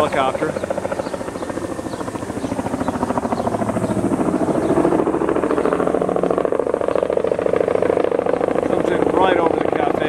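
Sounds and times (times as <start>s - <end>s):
helicopter rotor blades chopping: 0.0s - 10.0s.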